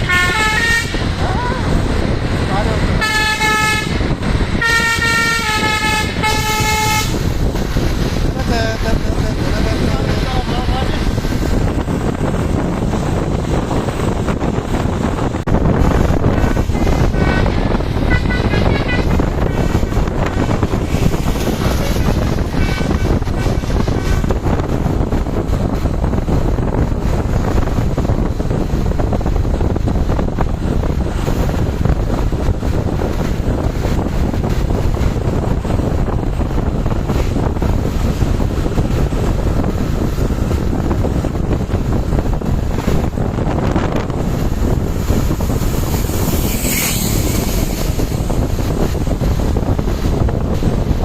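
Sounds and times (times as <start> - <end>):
road traffic rumble: 0.0 - 51.0
wind buffeting microphone: 0.0 - 51.0.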